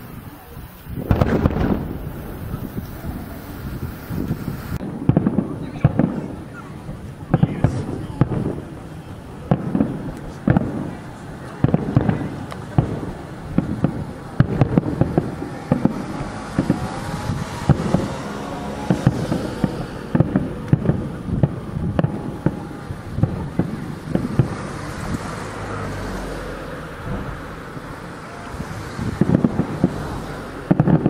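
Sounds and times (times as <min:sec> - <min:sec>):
distant firework booms: 0:00.0 - 0:31.0
wind rumble on microphone: 0:00.0 - 0:31.0.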